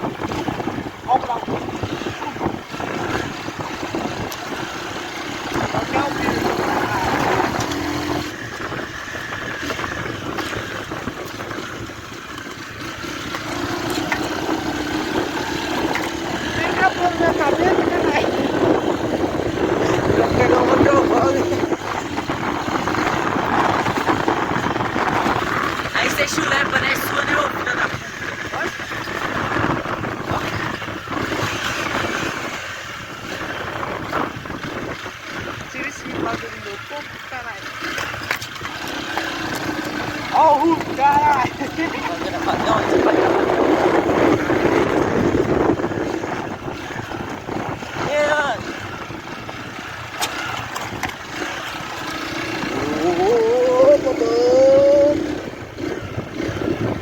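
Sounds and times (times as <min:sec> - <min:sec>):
wind noise on microphone: 0:00.0 - 0:37.2, 0:37.9 - 0:57.0
motorcycle engine running: 0:00.0 - 0:57.0.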